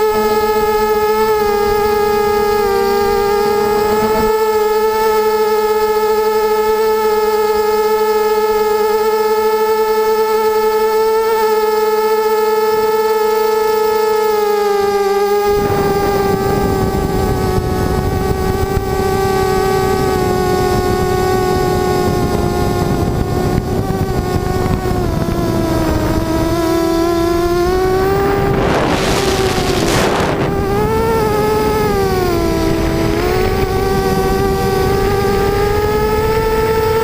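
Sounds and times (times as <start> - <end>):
drone motors whining: 0.0 - 37.0
wind noise on microphone: 0.0 - 37.0.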